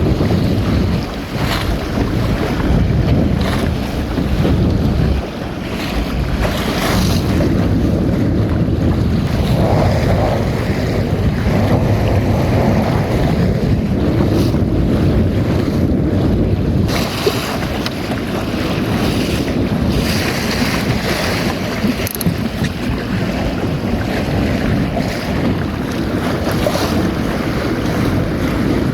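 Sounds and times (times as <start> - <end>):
water rushing along hull: 0.0 - 28.9
wind buffeting microphone: 0.0 - 28.9.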